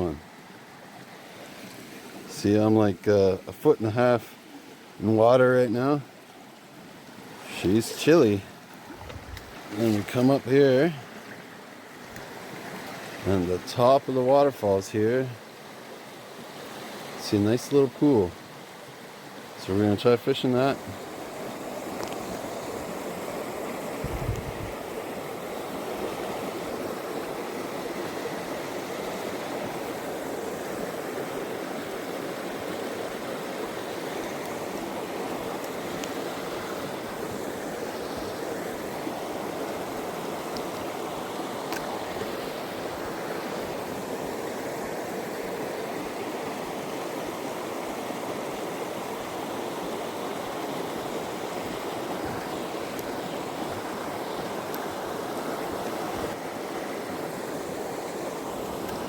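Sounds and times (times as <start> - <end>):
brook rushing over waterfall: 0.0 - 59.0.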